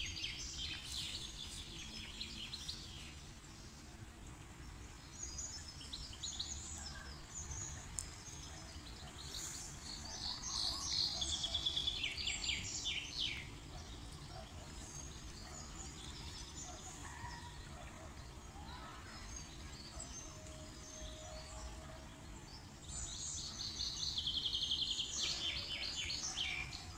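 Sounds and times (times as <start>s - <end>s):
songbirds chirping and singing: 0.0s - 26.9s.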